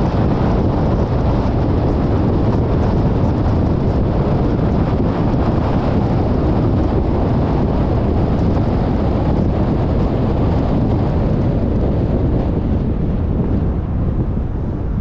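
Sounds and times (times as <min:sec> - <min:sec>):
car road noise rumble: 0:00.0 - 0:15.0
wind rushing over microphone: 0:00.0 - 0:15.0.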